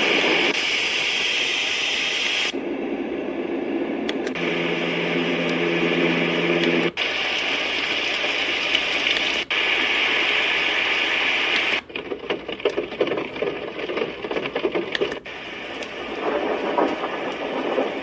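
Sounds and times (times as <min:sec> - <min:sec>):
white noise machine hiss: 0:00.0 - 0:11.8, 0:15.1 - 0:18.0.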